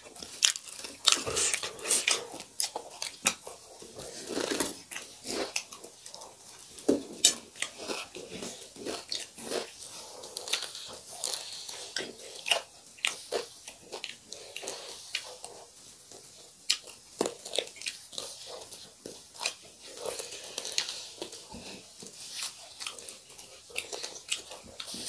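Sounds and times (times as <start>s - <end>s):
wet chewing: 0.0s - 25.0s.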